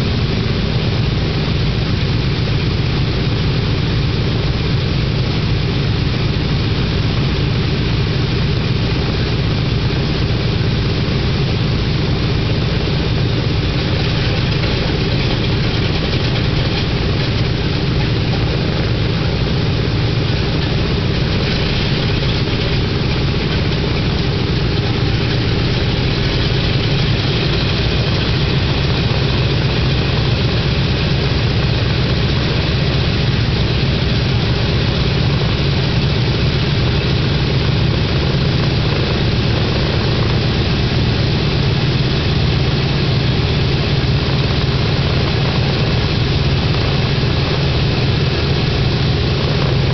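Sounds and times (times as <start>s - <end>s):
propeller noise: 0.0s - 49.9s
radial aircraft engines idling: 0.0s - 49.9s.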